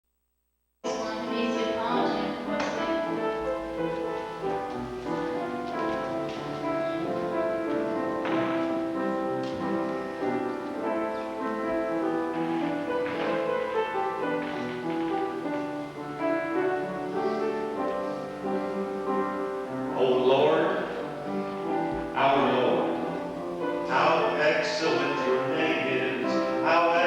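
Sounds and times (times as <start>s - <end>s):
instrumental music with piano: 0.8s - 27.0s.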